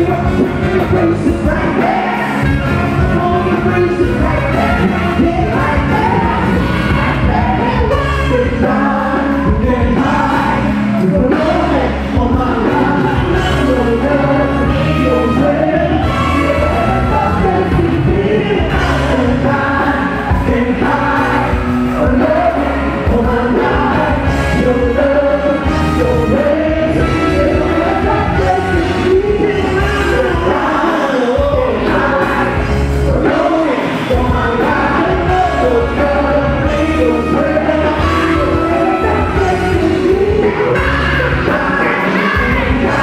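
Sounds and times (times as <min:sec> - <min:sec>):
choir singing: 0:00.0 - 0:43.0
drums: 0:00.0 - 0:43.0
heavy bass: 0:00.0 - 0:43.0
horns: 0:00.0 - 0:43.0
singers on microphones: 0:00.0 - 0:43.0.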